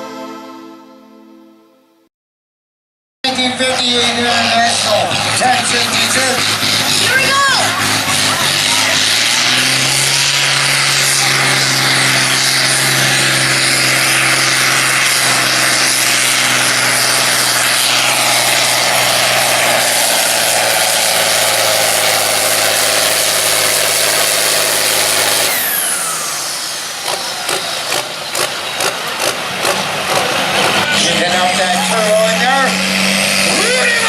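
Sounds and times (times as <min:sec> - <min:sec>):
tractor engine at full throttle: 0:03.2 - 0:34.0.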